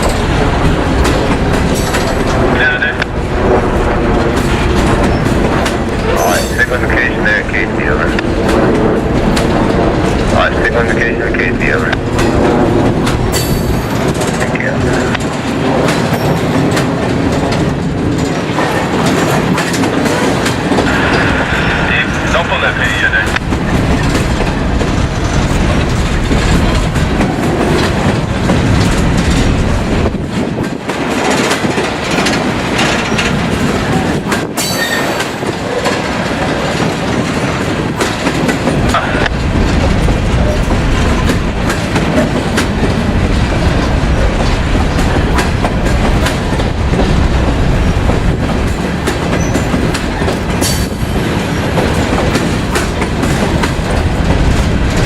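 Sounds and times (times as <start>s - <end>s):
clicking over rail joints: 0.0s - 3.2s, 7.8s - 20.9s, 23.1s - 55.0s
train wheels rumbling on rail: 0.0s - 55.0s.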